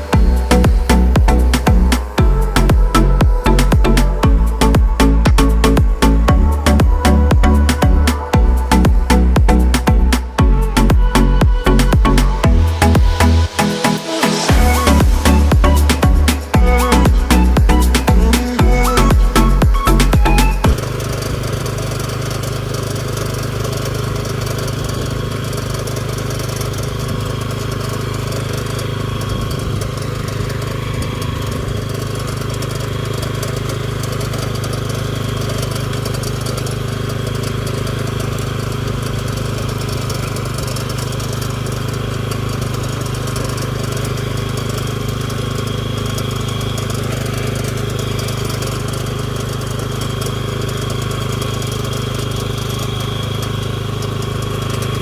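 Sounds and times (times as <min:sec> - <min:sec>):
power tiller engine running: 0:00.0 - 0:55.0.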